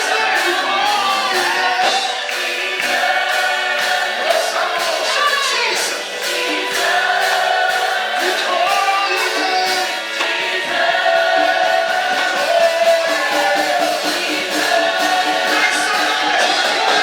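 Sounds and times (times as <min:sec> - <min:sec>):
gospel choir singing: 0:00.0 - 0:17.0
musical accompaniment: 0:00.0 - 0:17.0.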